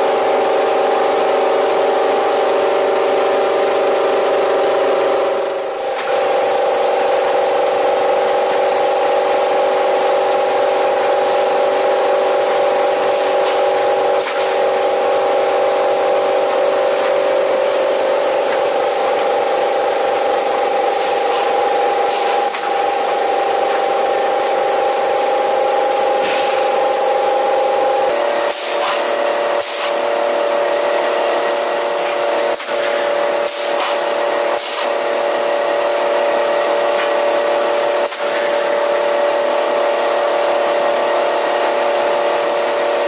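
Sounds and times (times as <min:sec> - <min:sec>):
machine whine over hiss: 0:05.1 - 0:43.0.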